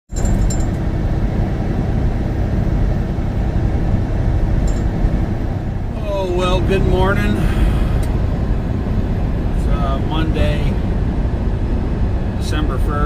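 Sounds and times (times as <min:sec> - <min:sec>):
truck diesel engine rumble: 0:00.1 - 0:13.0.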